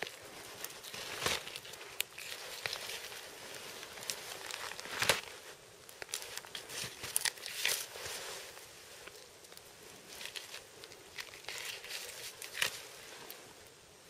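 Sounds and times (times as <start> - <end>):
clothing and snow rustling: 0.0 - 13.7.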